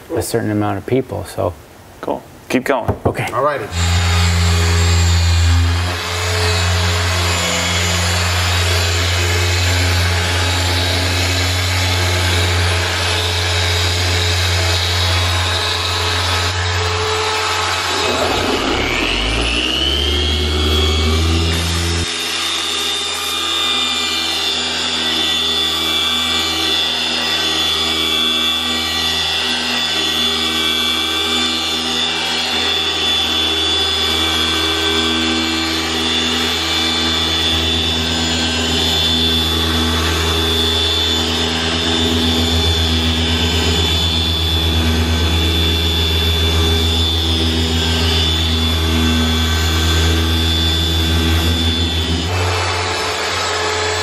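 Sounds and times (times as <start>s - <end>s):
electric polisher running: 3.7s - 54.0s.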